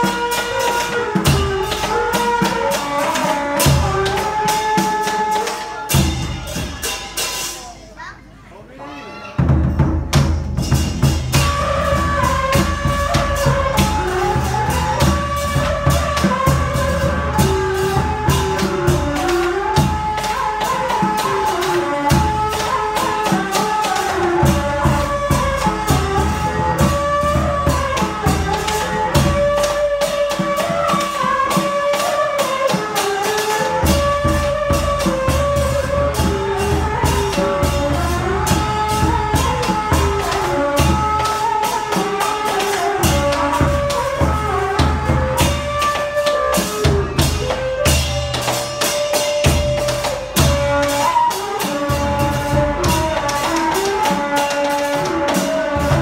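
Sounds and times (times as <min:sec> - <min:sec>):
low drum: 0:00.0 - 0:07.7, 0:09.4 - 0:56.0
rapid percussion: 0:00.0 - 0:08.0, 0:09.4 - 0:56.0
ceremonial melody: 0:09.7 - 0:56.0.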